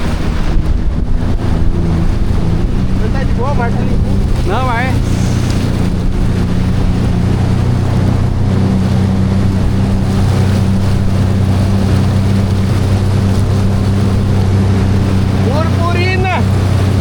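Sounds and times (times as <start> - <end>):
jet ski engine running: 0.0 - 17.0
wind and water rushing: 0.0 - 17.0.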